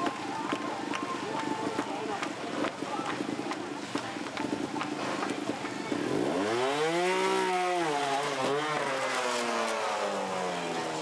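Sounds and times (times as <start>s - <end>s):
motorcycle engine revving: 1.7s - 11.0s.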